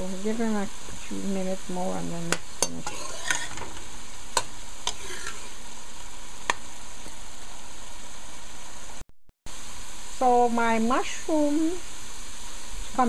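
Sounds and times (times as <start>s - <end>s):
stir fry sizzling in a pot: 0.0s - 13.0s.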